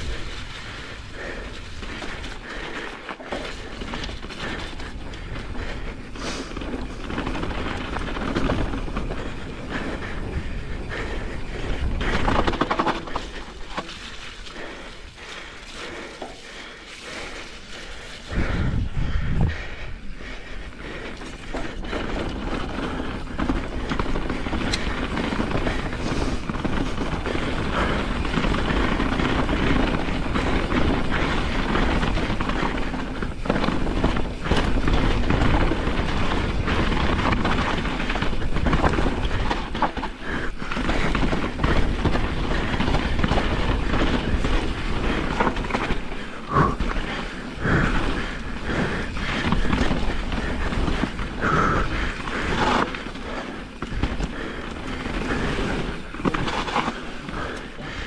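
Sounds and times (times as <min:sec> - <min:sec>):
bike rattling over bumps: 0:00.0 - 0:58.0
bike tyres on dirt: 0:00.0 - 0:58.0
wind rumbling on microphone: 0:00.0 - 0:58.0.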